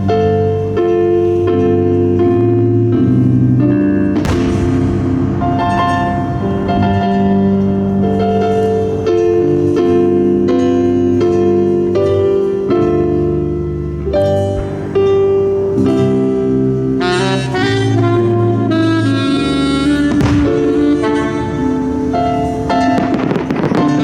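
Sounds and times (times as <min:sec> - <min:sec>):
jazz band playing: 0:00.0 - 0:24.0.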